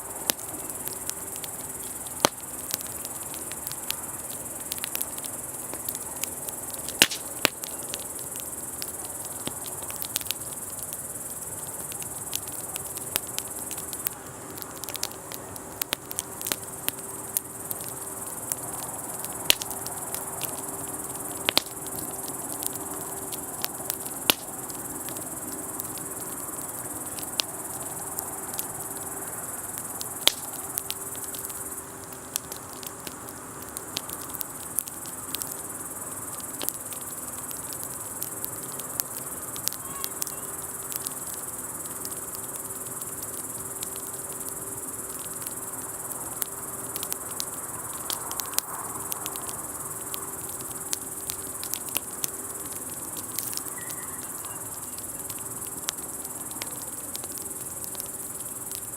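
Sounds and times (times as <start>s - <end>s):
campfire crackling and popping: 0.0s - 58.9s
crickets chirring: 0.0s - 58.9s.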